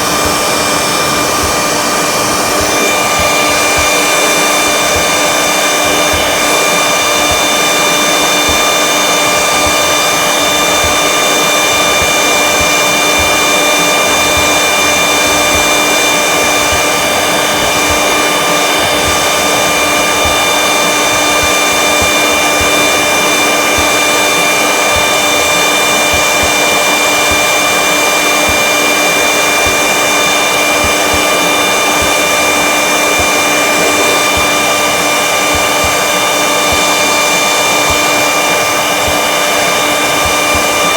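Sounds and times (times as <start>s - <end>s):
heat gun blowing air: 0.0s - 40.9s.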